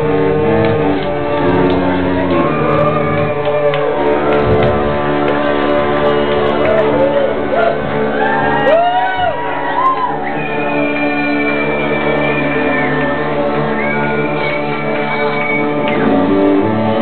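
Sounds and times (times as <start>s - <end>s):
brass band playing: 0.0s - 17.0s
crowd shouting and whooping: 0.1s - 17.0s.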